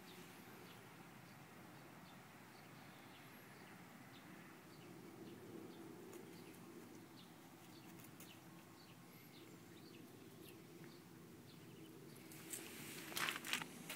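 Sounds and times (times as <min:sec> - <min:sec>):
distant birds chirping: 0:00.0 - 0:13.9.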